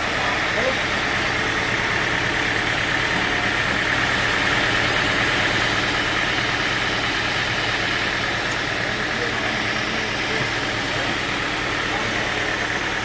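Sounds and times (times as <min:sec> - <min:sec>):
sawmill engine idling with whir: 0:00.0 - 0:13.0.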